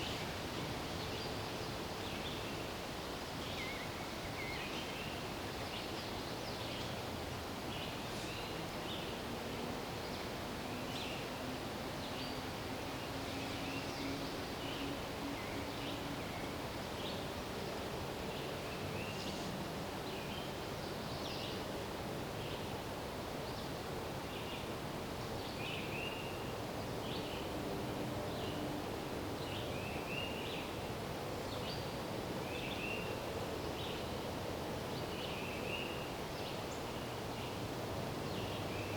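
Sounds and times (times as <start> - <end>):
wind in the trees: 0.0 - 38.9.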